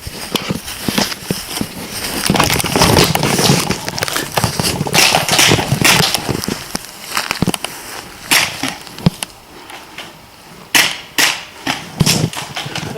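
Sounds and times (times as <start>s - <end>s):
clothing and gear rustling: 0.0s - 10.7s
footsteps crunching through dry brush: 0.0s - 10.7s.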